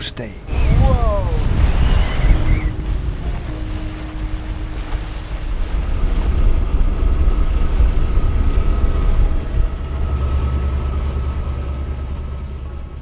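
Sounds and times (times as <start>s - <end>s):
water rushing along hull: 0.0s - 13.0s
wind buffeting microphone: 0.4s - 12.2s.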